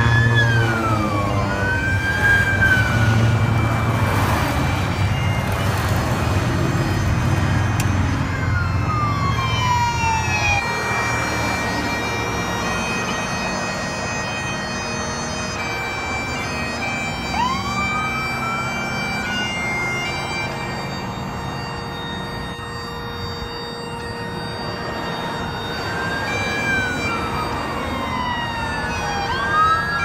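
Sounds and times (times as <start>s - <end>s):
motorcycles and cars passing: 0.0s - 30.0s.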